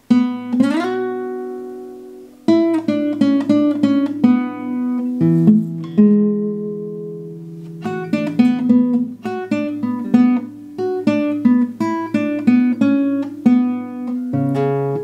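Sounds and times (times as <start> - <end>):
classical guitar fingerpicking: 0.0 - 15.0.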